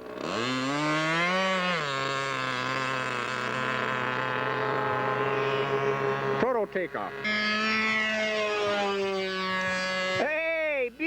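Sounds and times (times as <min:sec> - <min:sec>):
model seaplane engine running: 0:00.0 - 0:10.4.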